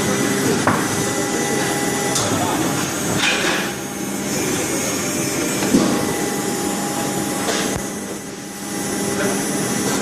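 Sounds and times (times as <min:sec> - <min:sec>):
food processing machinery humming: 0:00.0 - 0:10.0.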